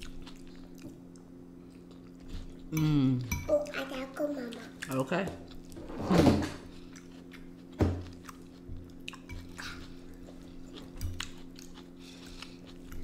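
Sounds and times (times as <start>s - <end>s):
chewing salad: 0.0s - 5.8s, 6.6s - 13.0s.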